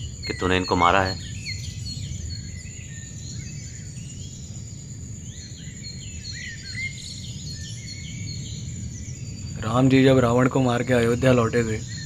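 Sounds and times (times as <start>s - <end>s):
birds chirping: 0.0s - 12.0s
high insect drone: 0.0s - 12.0s.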